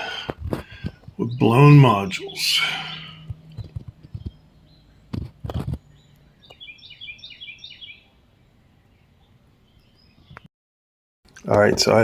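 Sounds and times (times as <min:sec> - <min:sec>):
bird chirping: 0:00.0 - 0:10.5.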